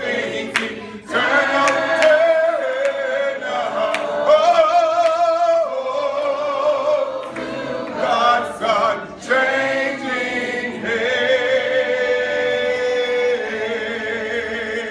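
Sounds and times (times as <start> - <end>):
unaccompanied hymn singing: 0.0 - 14.9.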